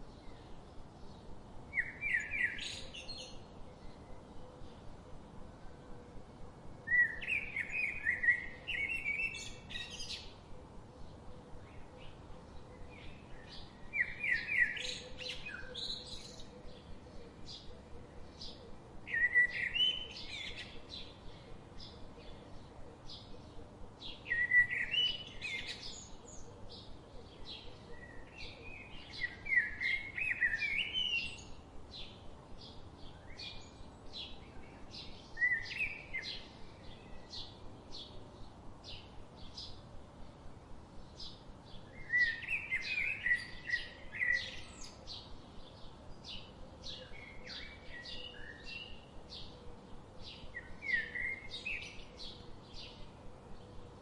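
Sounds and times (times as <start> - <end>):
bird warbling song: 0.0 - 5.2, 6.9 - 39.9, 41.0 - 54.0
songbirds chirping: 0.0 - 54.0.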